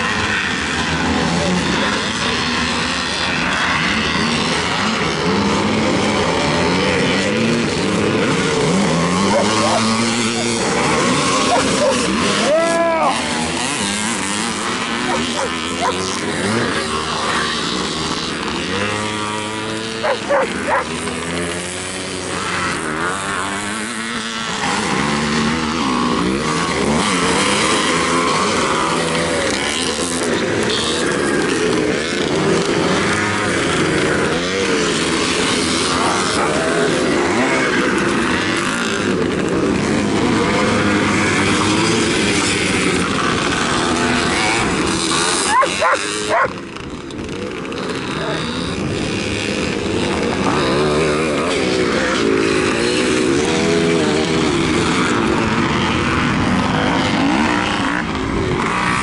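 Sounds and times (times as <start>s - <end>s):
motocross motorcycles racing: 0.0s - 59.0s.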